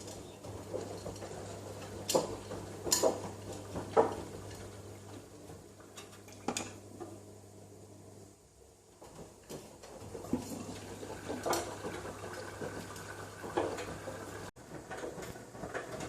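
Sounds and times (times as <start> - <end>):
washing machine tumbling laundry: 0.0 - 16.0.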